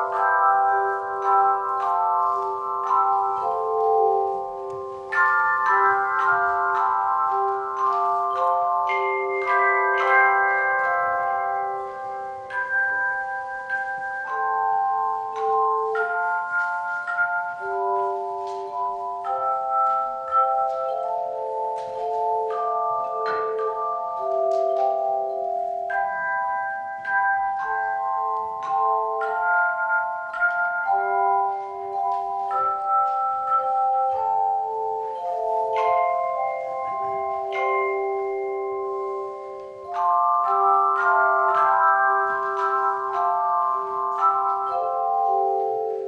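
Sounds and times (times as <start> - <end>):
handbell choir playing chords: 0.0 - 46.0.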